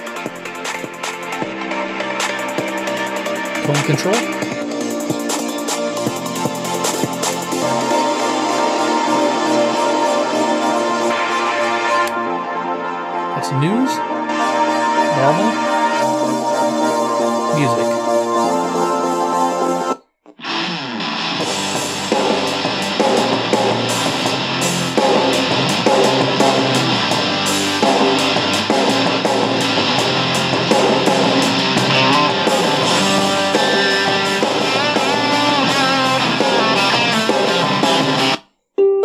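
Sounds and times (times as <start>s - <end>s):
rock music from radio speaker: 0.0s - 13.0s, 14.0s - 38.4s.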